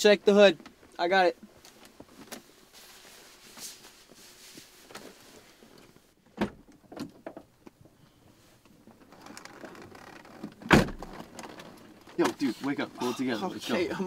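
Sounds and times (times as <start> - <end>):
faint rustling: 0.4 - 13.9.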